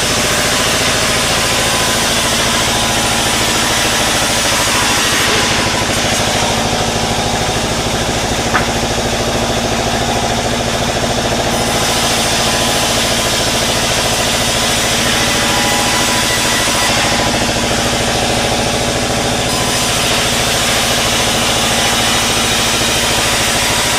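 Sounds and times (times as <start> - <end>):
sawmill engine running: 0.0 - 23.9.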